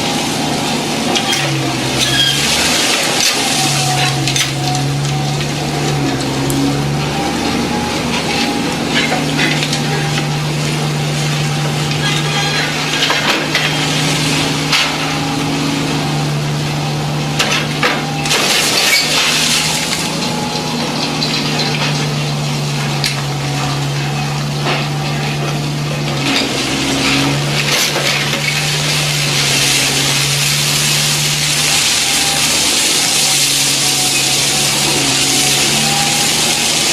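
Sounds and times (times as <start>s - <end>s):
soil and pebbles scraping: 0.0s - 16.4s, 17.6s - 36.9s.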